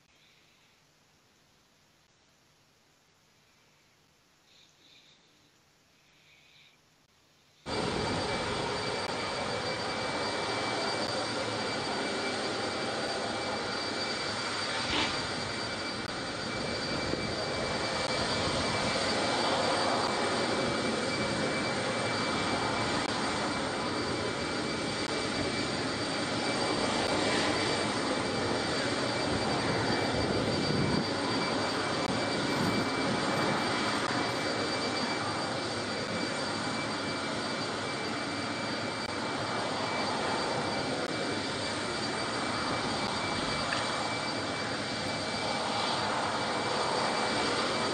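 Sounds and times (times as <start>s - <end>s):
jet engines running: 7.6s - 47.9s.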